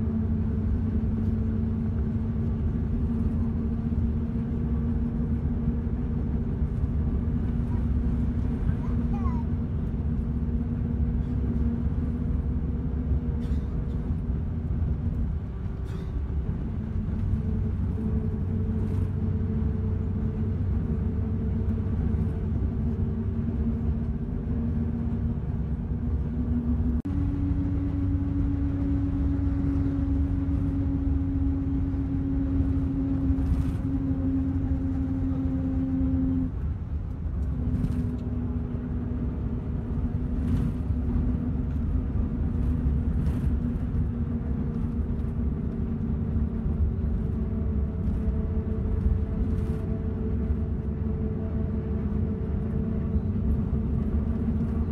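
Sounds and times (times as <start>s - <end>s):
engine humming: 0.0s - 54.9s
vehicle interior road rumble: 0.0s - 54.9s.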